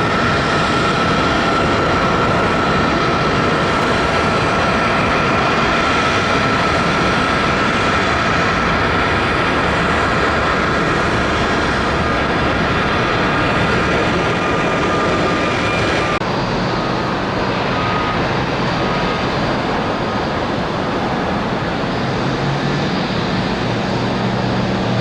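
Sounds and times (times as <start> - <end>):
jet engine noise after touchdown: 0.0 - 25.0
jet noise at takeoff: 0.0 - 25.0.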